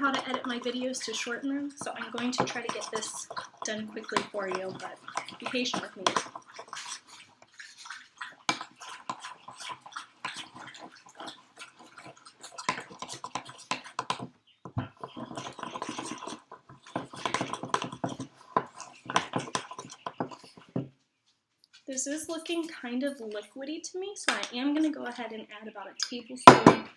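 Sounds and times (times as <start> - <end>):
spoon stirring thick dough: 0.0 - 23.5.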